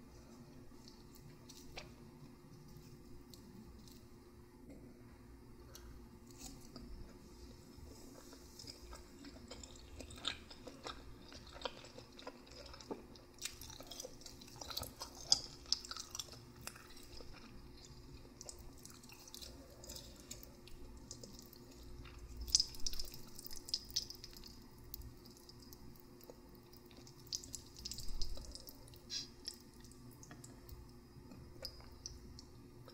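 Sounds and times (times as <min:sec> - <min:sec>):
chewing noodles: 0:06.3 - 0:32.9.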